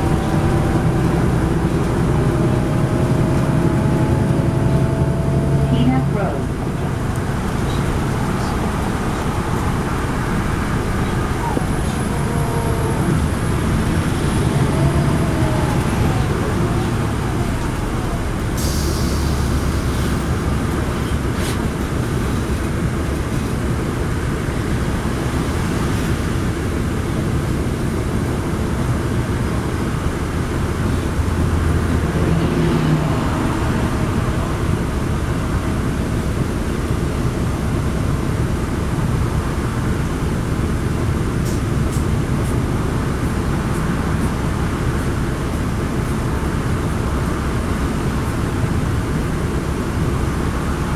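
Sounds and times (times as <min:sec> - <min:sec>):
diesel bus engine running: 0:00.0 - 0:50.9
road and tyre noise: 0:00.0 - 0:50.9.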